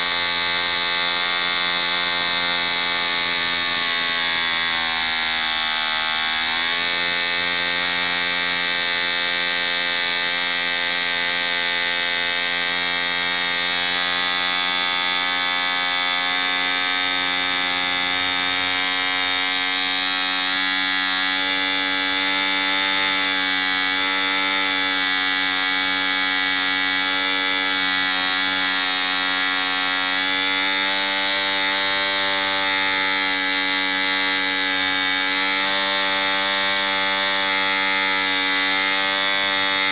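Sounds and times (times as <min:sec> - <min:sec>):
model engine high buzz: 0:00.0 - 0:39.9.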